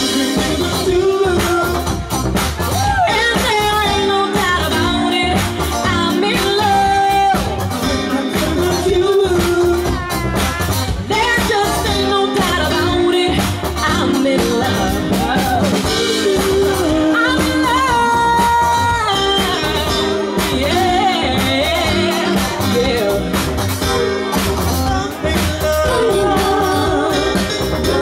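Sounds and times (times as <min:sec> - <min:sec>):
drums keeping a beat: 0:00.0 - 0:28.0
guitar: 0:00.0 - 0:28.0
singers singing: 0:00.0 - 0:28.0.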